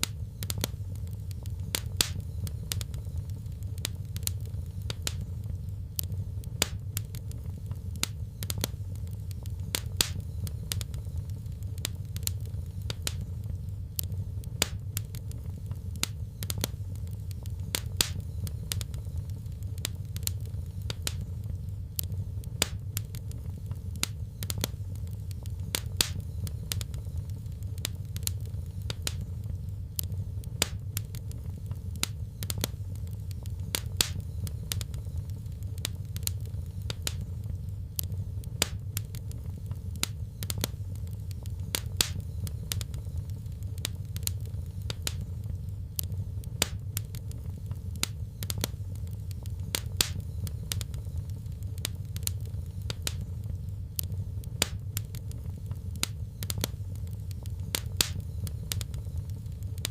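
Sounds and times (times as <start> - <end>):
fire crackling and popping: 0.0 - 59.9
low fire rumble: 0.0 - 59.9.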